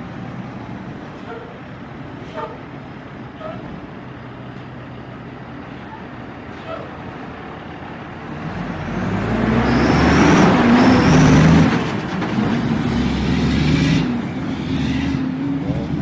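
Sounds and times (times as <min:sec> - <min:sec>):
large vehicle engine running hard: 0:00.0 - 0:16.0.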